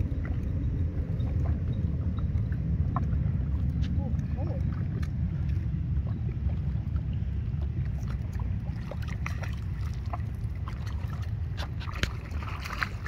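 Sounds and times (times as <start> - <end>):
fish splashing in water: 0.0 - 13.0
wind rumbling on microphone: 0.0 - 13.0.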